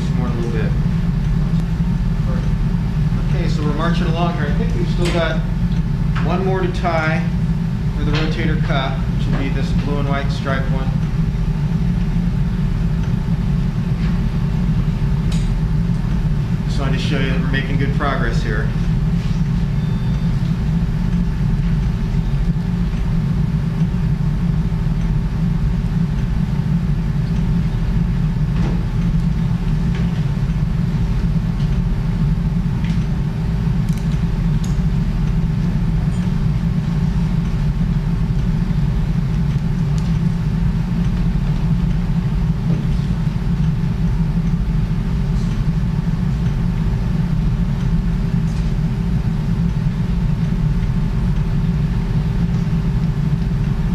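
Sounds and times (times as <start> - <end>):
low machine hum: 0.0 - 53.9.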